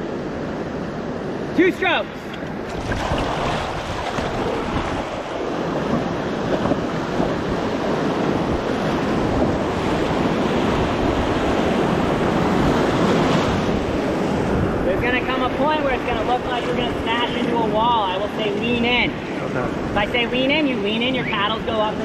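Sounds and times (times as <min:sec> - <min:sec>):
river water rushing: 0:00.0 - 0:22.0
wind buffeting microphone: 0:02.2 - 0:20.8.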